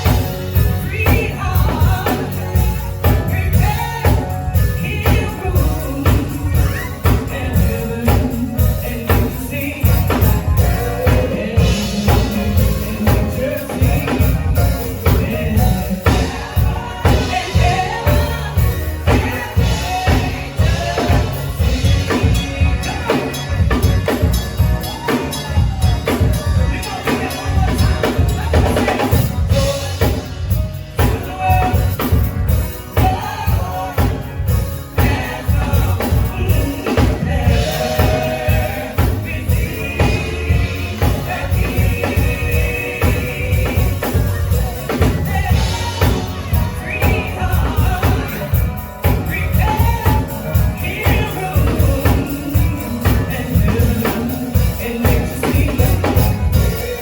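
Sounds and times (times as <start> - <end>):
drum kit: 0.0 - 57.0
hand percussion: 0.0 - 57.0
lead singer: 0.0 - 57.0
live gospel band: 0.0 - 57.0.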